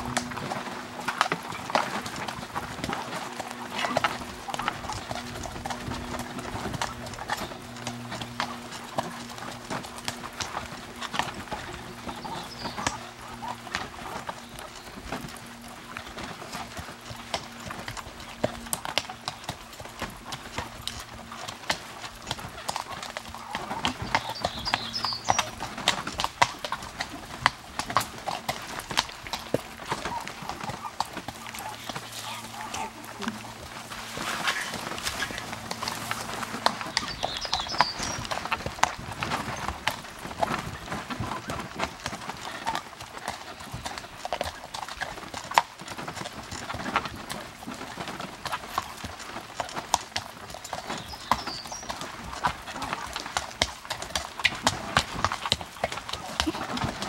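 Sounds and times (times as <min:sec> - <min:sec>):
horse hooves clip-clopping on dirt: 0:00.0 - 0:57.0.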